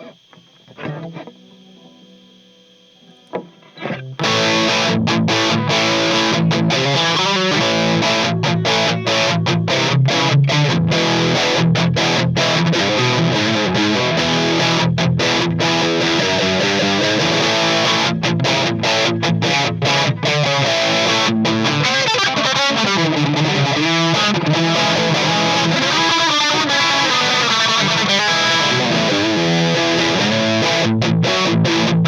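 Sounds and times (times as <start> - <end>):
distorted electric guitar chords: 0.0 - 32.0.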